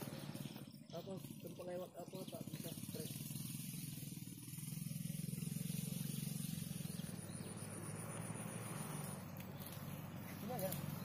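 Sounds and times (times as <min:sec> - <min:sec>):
small engine pulsing rumble: 0:00.0 - 0:11.0.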